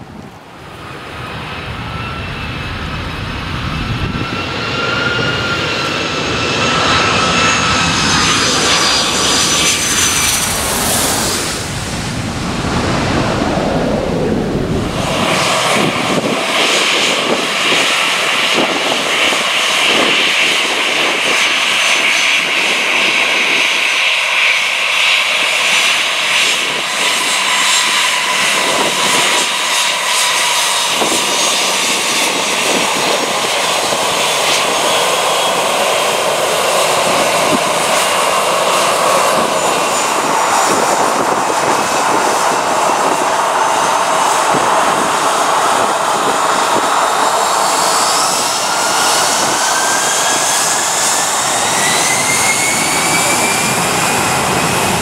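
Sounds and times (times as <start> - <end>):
high engine whine: 0.0 - 55.0
jet airliner engines: 0.0 - 55.0.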